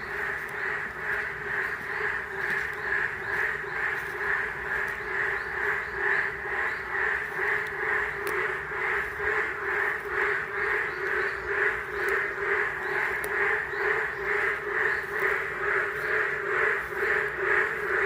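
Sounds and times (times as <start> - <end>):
frogs croaking: 0.0 - 18.0.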